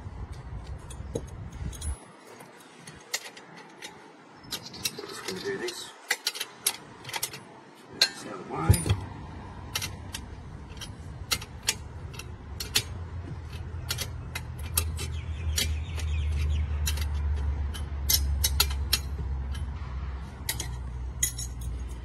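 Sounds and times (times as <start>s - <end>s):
metal parts clinking: 0.3s - 9.0s, 9.7s - 19.8s, 20.4s - 22.0s.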